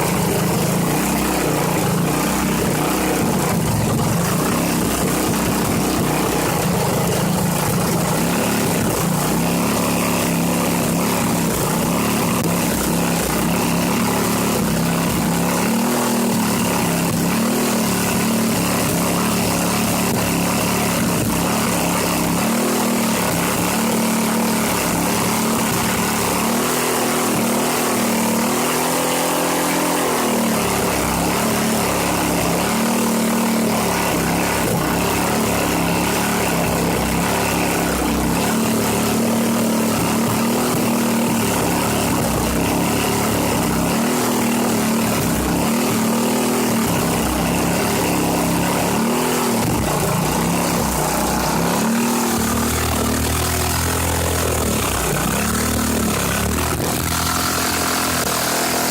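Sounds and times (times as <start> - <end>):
small engine running unevenly: 0.0 - 58.9.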